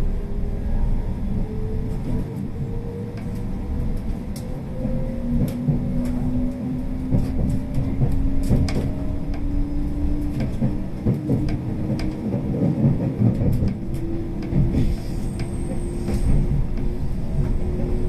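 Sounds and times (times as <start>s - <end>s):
train interior low rumble: 0.0s - 18.0s.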